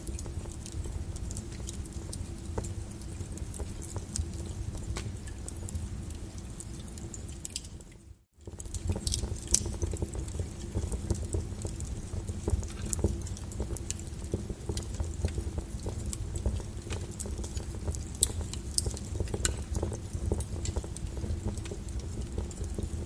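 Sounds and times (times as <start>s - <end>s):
rain pattering: 0.0s - 23.0s
wood fire crackling and popping: 0.0s - 23.0s.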